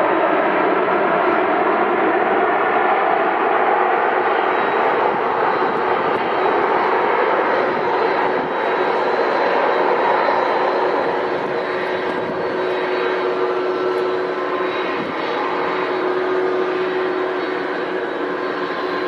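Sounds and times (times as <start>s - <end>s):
faint high whine: 0.0s - 19.0s
jet engines rushing: 0.0s - 19.0s.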